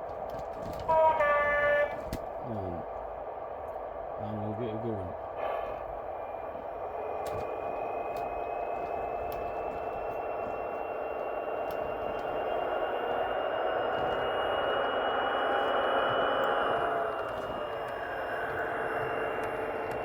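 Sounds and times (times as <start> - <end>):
model train engine sound: 0.0 - 20.0.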